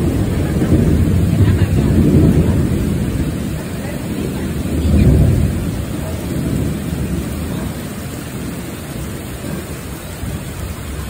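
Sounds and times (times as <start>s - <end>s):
steady rain: 0.0s - 11.0s
thunder rumbling: 0.0s - 11.0s.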